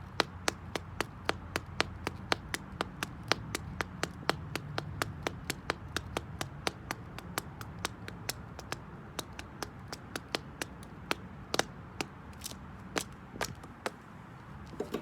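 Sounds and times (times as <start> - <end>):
shoe clicking on concrete: 0.0 - 15.0.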